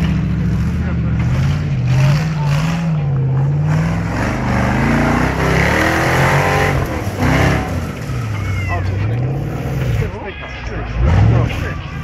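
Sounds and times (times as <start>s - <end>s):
buggy engine revving hard: 0.0s - 10.1s.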